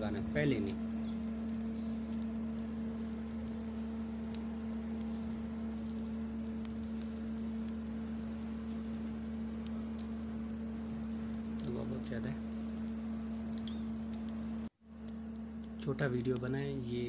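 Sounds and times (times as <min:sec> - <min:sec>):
meat sizzling over charcoal: 0:00.0 - 0:17.0
sharp crackles: 0:00.0 - 0:17.0
steady low hum: 0:00.0 - 0:17.0.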